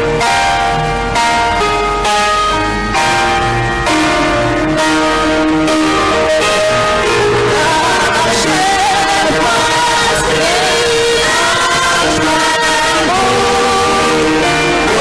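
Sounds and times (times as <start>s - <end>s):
gospel choir singing: 0.0s - 15.0s
keyboard chords: 0.0s - 15.0s.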